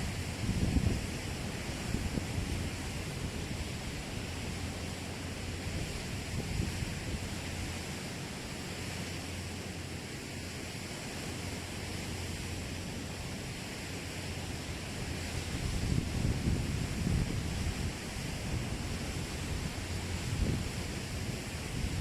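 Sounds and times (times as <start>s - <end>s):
low steady rumble: 0.0s - 22.0s
ocean surf hissing: 0.0s - 22.0s.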